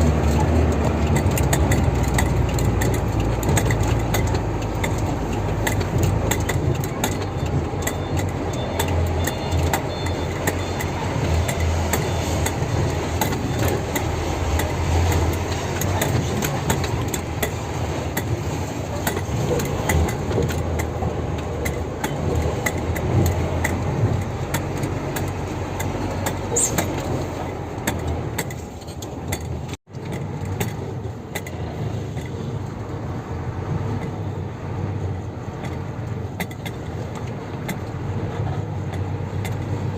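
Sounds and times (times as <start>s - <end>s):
diesel truck engine running: 0.0s - 39.9s
truck rattling and clinking: 0.0s - 39.9s.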